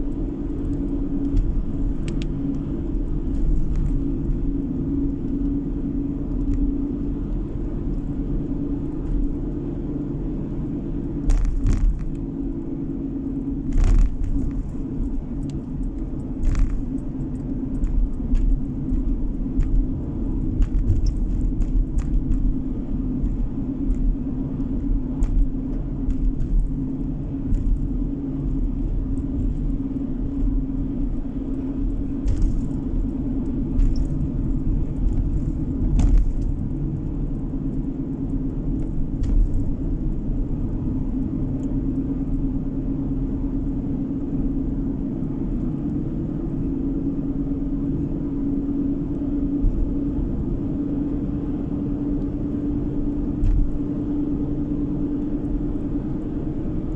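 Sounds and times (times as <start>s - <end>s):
car engine drone: 0.0s - 56.9s
tyres on the road: 0.0s - 56.9s.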